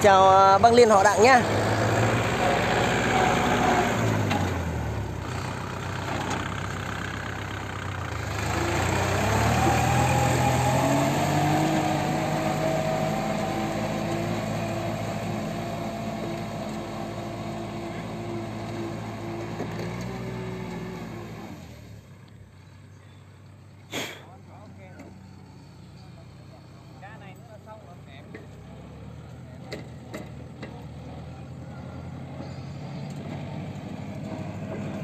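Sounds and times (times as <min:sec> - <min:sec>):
tractor diesel engine labouring: 0:00.0 - 0:35.0.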